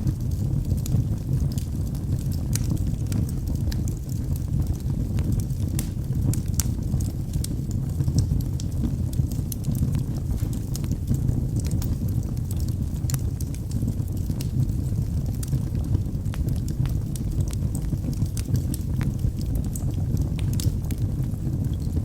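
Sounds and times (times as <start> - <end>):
burning wood crackling: 0.0 - 22.0
low rumble of flame: 0.0 - 22.0.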